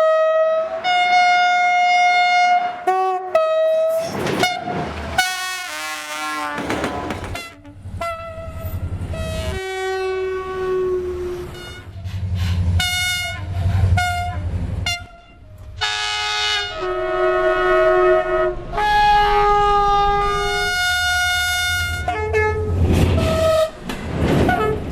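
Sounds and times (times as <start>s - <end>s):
train horn blasts: 0.0s - 12.0s, 12.7s - 23.8s
train running rumble: 3.7s - 24.9s.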